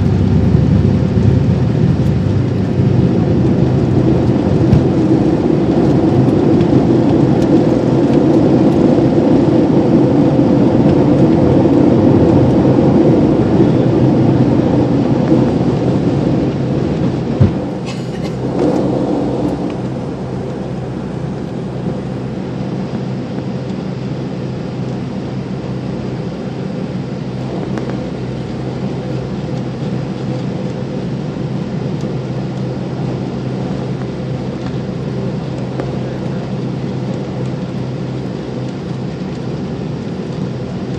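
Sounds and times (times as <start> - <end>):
jet engine rumble: 0.0 - 40.9.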